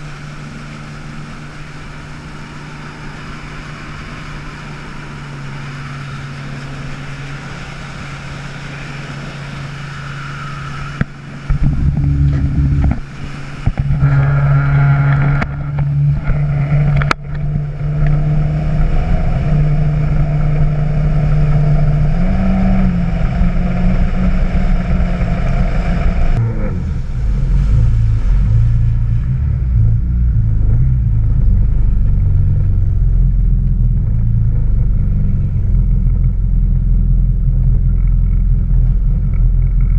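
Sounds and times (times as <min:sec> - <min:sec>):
hull rushing over water: 0:00.0 - 0:39.9
personal watercraft engine running: 0:00.0 - 0:39.9.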